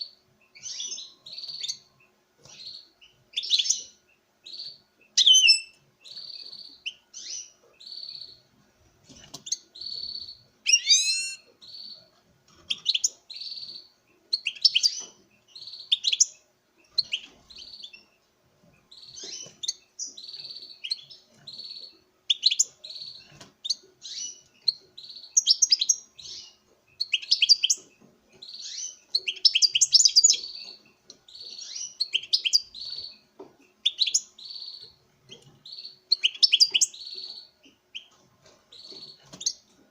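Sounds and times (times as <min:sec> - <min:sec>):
finch singing: 0:00.0 - 0:08.5, 0:09.1 - 0:39.9.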